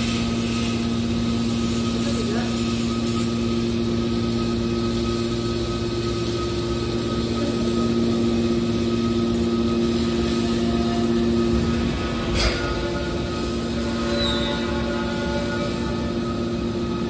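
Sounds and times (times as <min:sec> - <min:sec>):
machine hum with low whine: 0:00.0 - 0:17.0.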